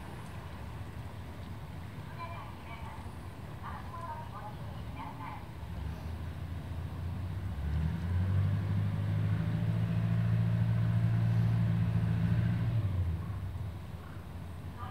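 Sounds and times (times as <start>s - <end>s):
low engine hum: 0.0s - 14.9s.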